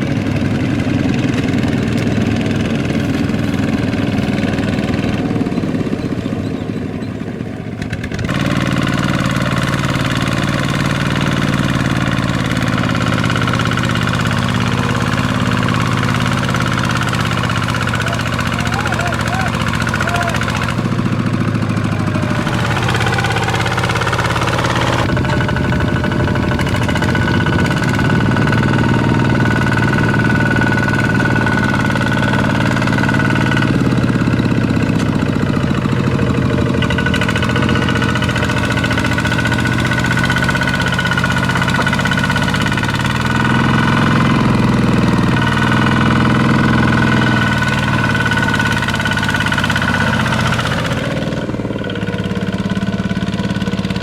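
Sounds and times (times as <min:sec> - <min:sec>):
walking tractor engine running: 0:00.0 - 0:54.0.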